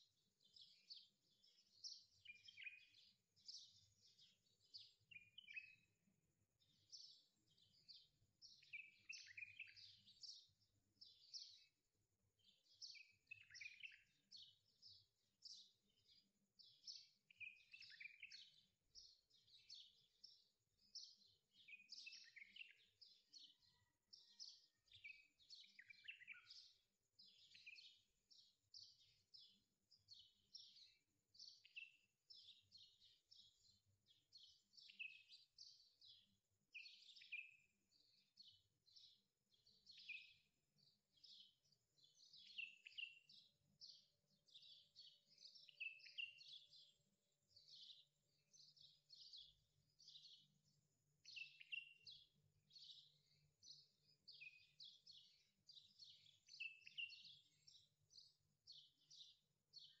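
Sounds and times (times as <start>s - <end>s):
bird chirping: 0.0s - 60.0s.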